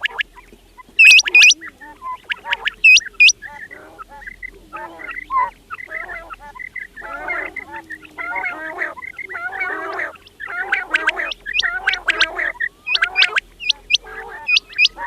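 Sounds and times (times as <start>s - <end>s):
quails chattering chirps: 0.0s - 15.0s.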